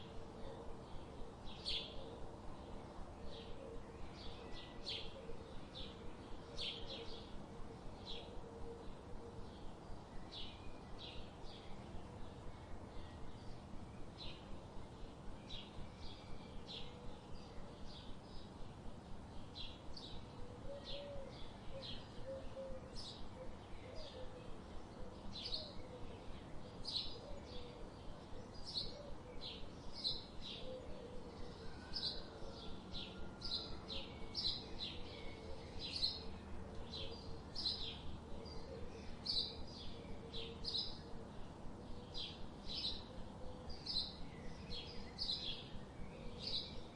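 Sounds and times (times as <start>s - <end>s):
small birds chirping: 8.0s - 46.9s.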